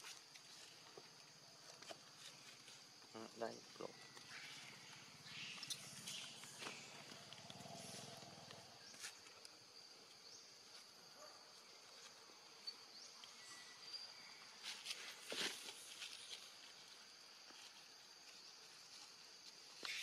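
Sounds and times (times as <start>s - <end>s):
faint high insect drone: 0.0s - 20.0s.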